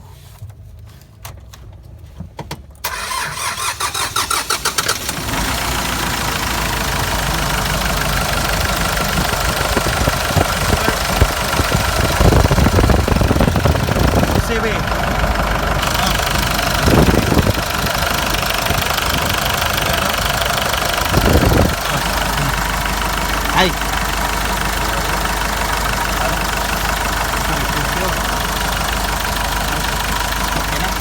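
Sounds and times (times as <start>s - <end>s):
starter cranking engine: 2.8s - 31.0s
diesel engine running: 2.9s - 31.0s.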